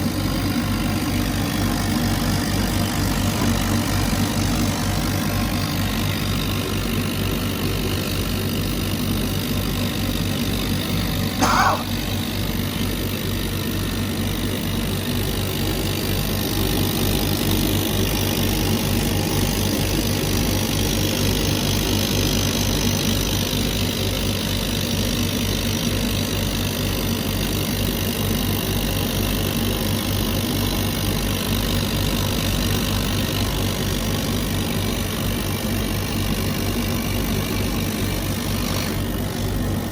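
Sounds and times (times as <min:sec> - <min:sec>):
machine hum with low pulsing: 0:00.0 - 0:39.9.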